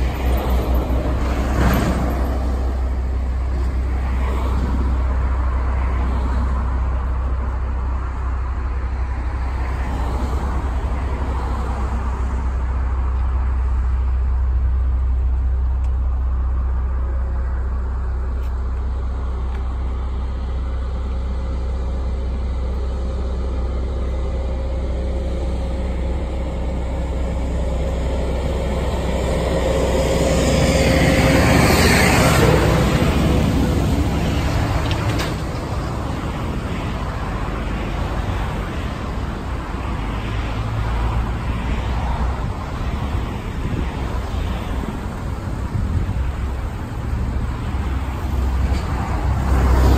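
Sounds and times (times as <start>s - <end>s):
car engine running: 0.0s - 49.9s.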